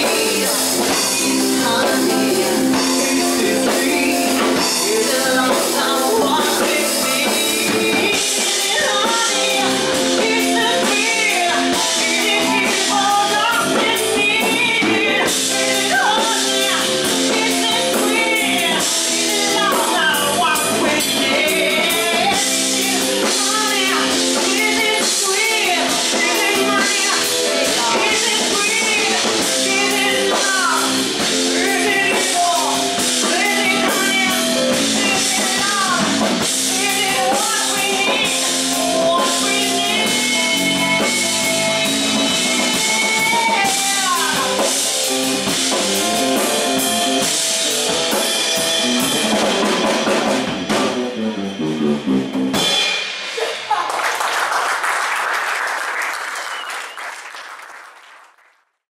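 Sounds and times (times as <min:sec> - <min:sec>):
woman singing into a microphone: 0:00.0 - 0:47.2
live band playing: 0:00.0 - 0:53.8.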